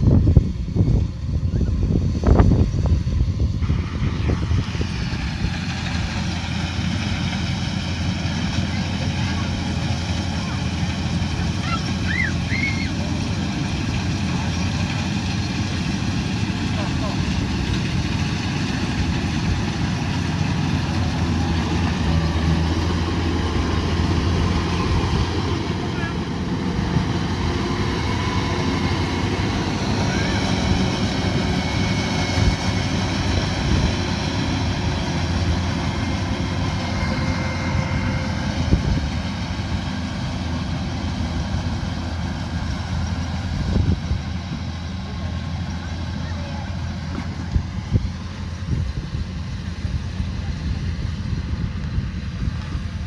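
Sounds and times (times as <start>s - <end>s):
combine harvester running: 0.0s - 53.0s
machinery whine: 0.0s - 53.0s.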